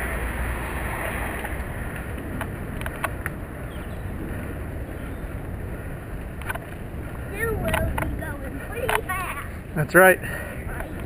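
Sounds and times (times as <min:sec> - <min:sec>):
bicycle rolling rumble: 0:00.0 - 0:11.0
wind rushing over microphone: 0:00.0 - 0:11.0.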